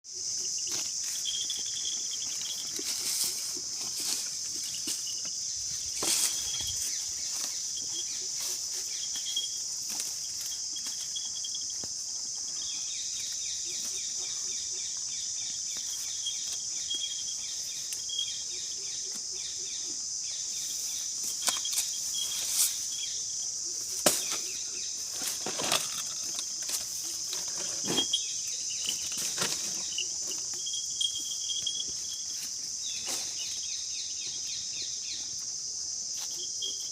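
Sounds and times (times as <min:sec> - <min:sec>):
high-pitched insect drone: 0:00.0 - 0:36.9.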